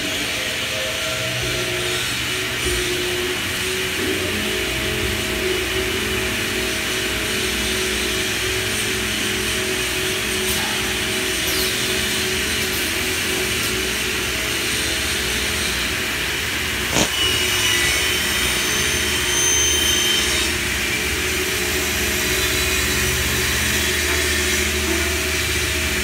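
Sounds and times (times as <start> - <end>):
high machine whine: 0.0 - 26.0
woodworking machine humming: 0.0 - 26.0.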